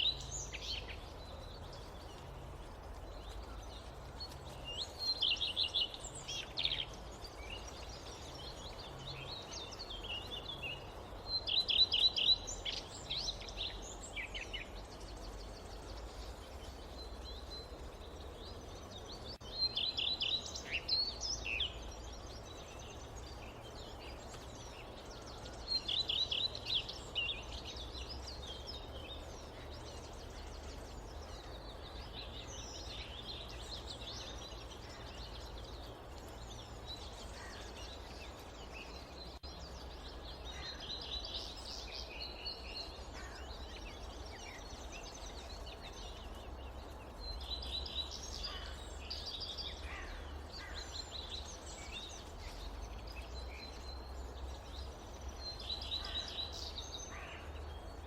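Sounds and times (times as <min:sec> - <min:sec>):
forest background noise: 0:00.0 - 0:58.0
songbird singing: 0:00.0 - 0:58.0.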